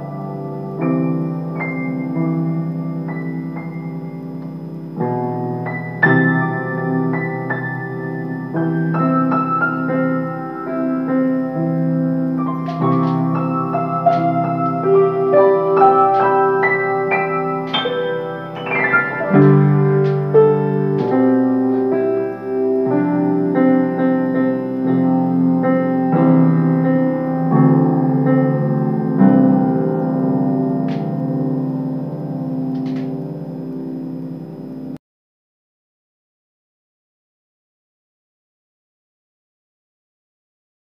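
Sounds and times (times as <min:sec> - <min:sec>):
solo piano piece: 0:00.0 - 0:35.0.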